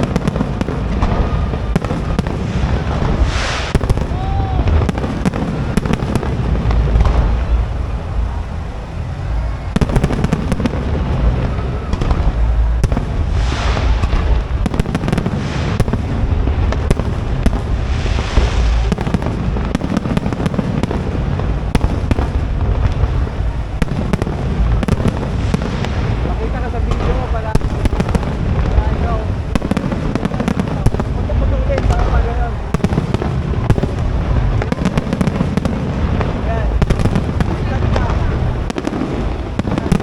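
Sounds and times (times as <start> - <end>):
fireworks booming: 0.0 - 40.0
fireworks crackling: 0.0 - 40.0.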